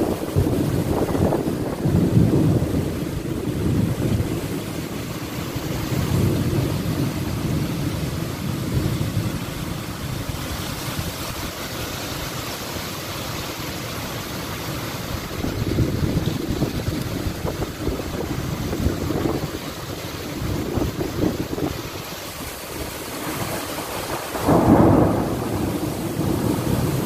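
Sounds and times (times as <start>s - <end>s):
wind gusting on microphone: 0.0s - 12.5s, 14.6s - 27.0s
heavy rain: 0.0s - 27.0s.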